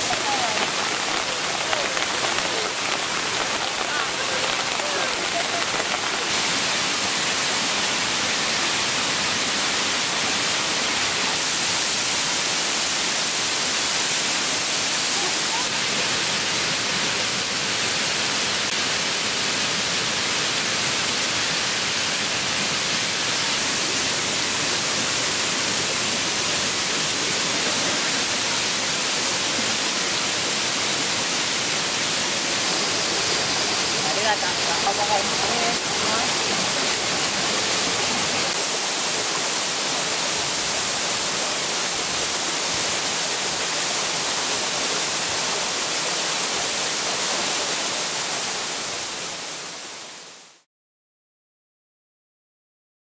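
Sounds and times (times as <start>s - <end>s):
stream and waterfall rushing: 0.0s - 50.7s.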